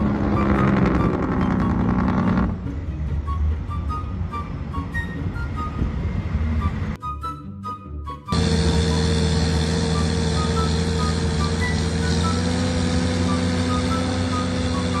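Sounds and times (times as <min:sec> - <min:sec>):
large engine droning: 0:00.0 - 0:07.0, 0:08.3 - 0:15.0.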